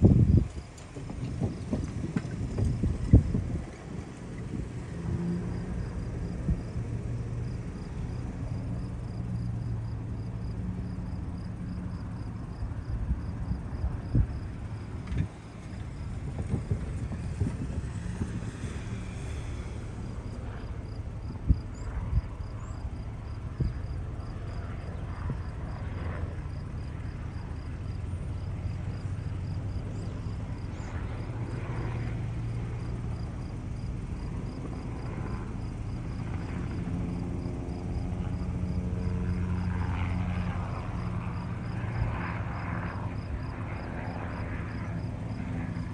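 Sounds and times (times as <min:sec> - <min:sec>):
distant helicopter droning: 0:00.0 - 0:45.9
wind buffeting microphone: 0:00.0 - 0:45.9
insects chirping: 0:04.9 - 0:45.9.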